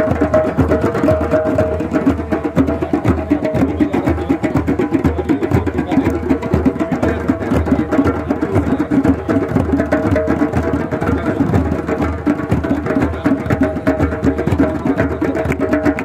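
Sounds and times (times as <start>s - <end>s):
djembe hand drums: 0.0s - 16.0s.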